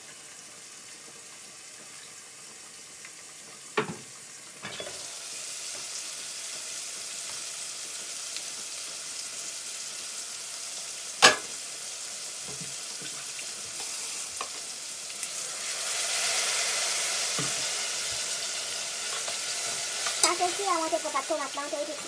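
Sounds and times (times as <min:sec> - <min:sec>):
food sizzling in a pot: 0:00.0 - 0:22.0.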